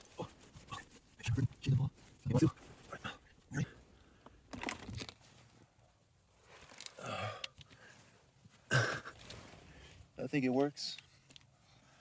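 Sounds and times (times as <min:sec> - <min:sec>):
faint rustling and handling: 0:00.0 - 0:12.0.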